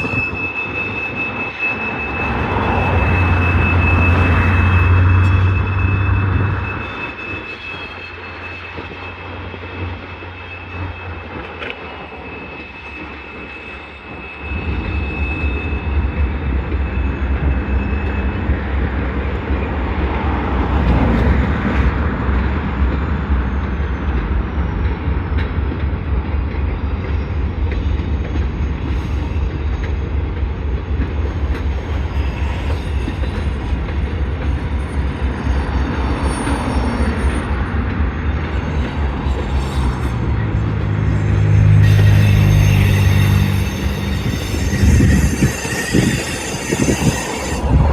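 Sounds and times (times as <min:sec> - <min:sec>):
freight train rumble: 0:00.0 - 0:47.9
high-pitched squeal: 0:00.0 - 0:47.9.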